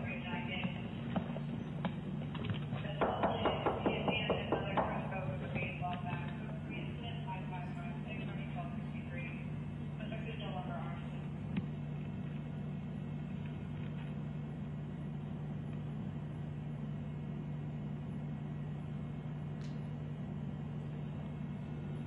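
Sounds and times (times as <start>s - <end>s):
steady low hum with hiss: 0.0s - 22.0s.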